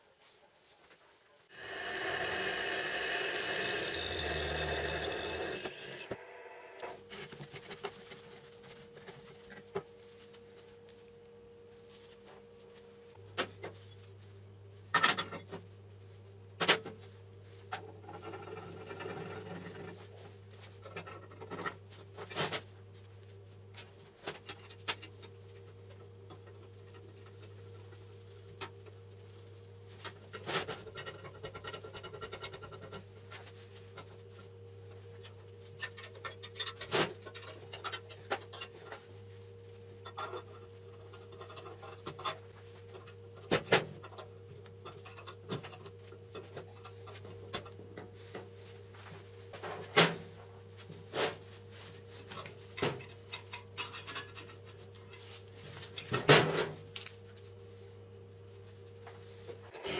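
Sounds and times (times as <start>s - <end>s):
steady low hum: 1.5s - 59.9s.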